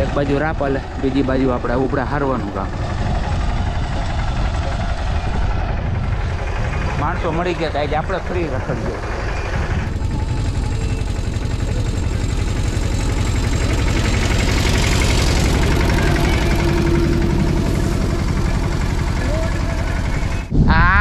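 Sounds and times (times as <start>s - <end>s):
tractor diesel engine rumbling: 0.0s - 21.0s.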